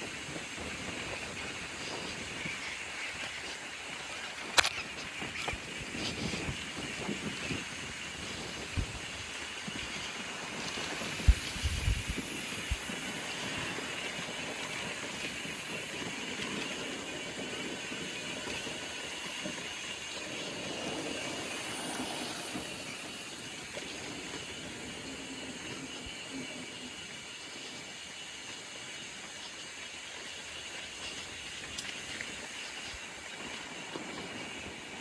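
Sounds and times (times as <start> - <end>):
bike rolling on dirt trail: 0.0 - 35.0.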